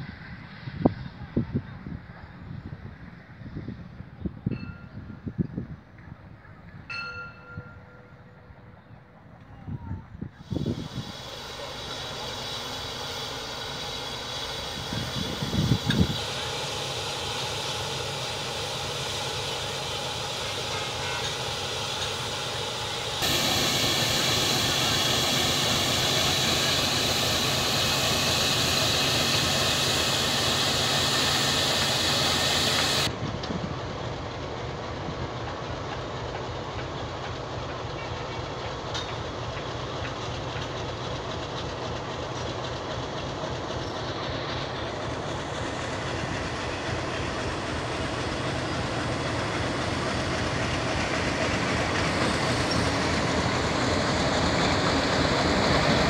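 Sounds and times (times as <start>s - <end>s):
diesel locomotive engine: 0.0s - 56.0s
train wheels on rails: 2.0s - 56.0s
steam hissing from locomotive: 10.4s - 56.0s.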